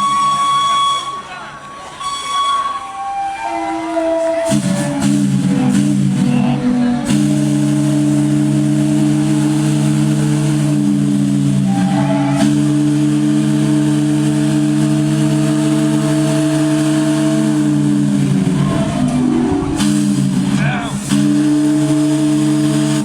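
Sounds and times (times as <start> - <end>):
chime steam whistle blowing: 0.0 - 5.9, 7.1 - 23.0.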